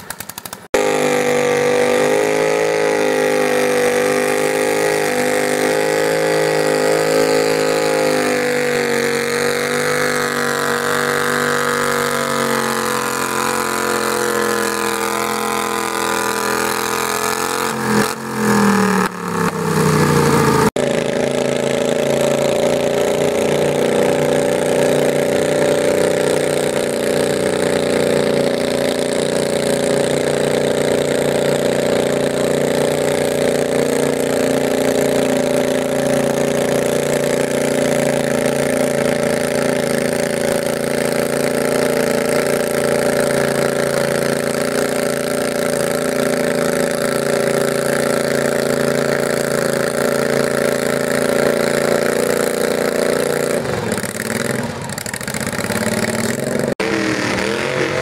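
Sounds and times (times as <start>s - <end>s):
garden tractor engine running: 0.0s - 56.9s.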